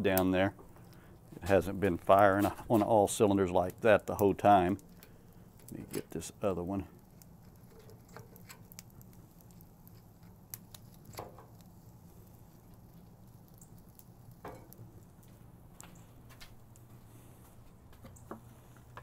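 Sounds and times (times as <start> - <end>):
fire crackling and popping: 0.0 - 19.0
steady low hum: 0.0 - 19.0.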